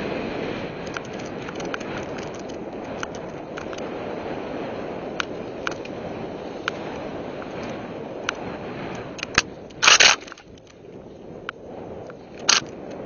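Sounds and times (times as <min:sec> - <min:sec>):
tyre and wind rushing: 0:00.0 - 0:13.0
bike metallic clicks and rattles: 0:00.8 - 0:04.0, 0:05.1 - 0:10.8, 0:11.4 - 0:13.0.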